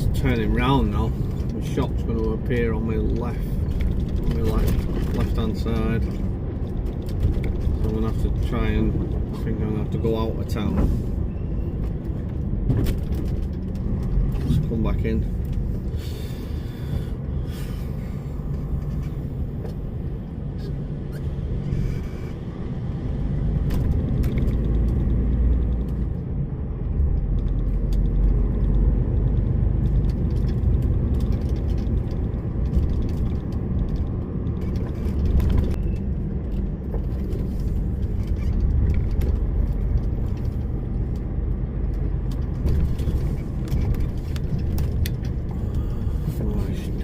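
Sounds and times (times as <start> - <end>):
lorry diesel engine rumble: 0.0 - 47.0
road noise: 0.0 - 47.0.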